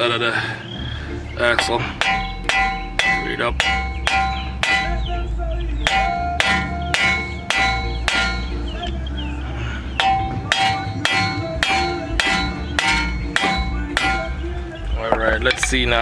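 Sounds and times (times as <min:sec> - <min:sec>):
hammer striking metal: 0:01.6 - 0:08.9, 0:10.0 - 0:16.0.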